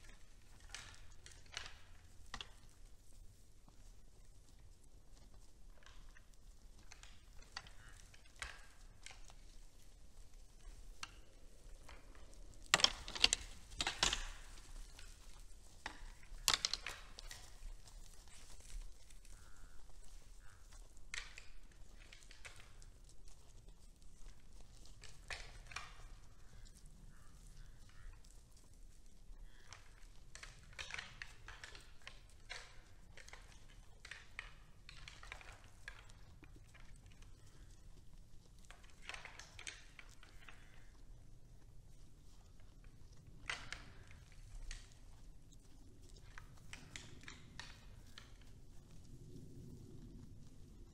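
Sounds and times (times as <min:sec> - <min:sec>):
deer crunching hay: 0:00.0 - 0:50.9
faint steady background noise: 0:00.0 - 0:50.9.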